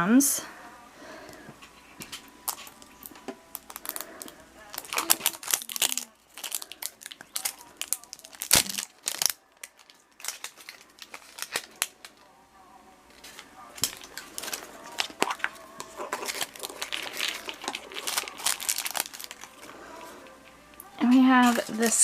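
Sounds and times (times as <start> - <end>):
plastic packaging crinkling and tearing: 2.0 - 12.3, 13.1 - 22.0.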